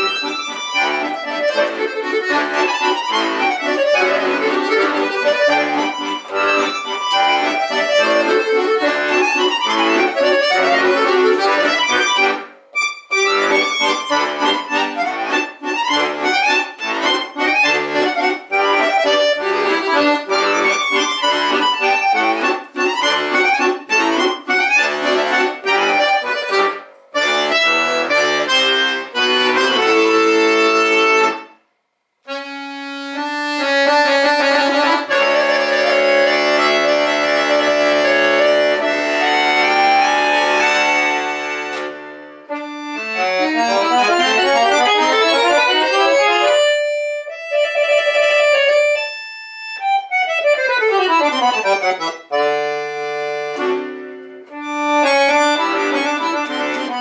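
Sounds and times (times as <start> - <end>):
solo accordion playing: 0.0 - 31.6, 32.2 - 57.0.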